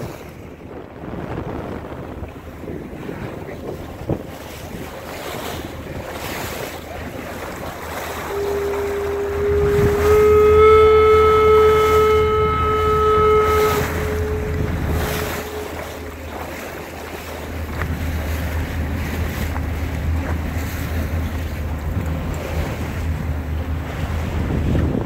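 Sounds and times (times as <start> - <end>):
boat on choppy water: 0.0 - 25.0
wind buffeting microphone: 0.0 - 25.0
boat horn blast: 1.1 - 25.0.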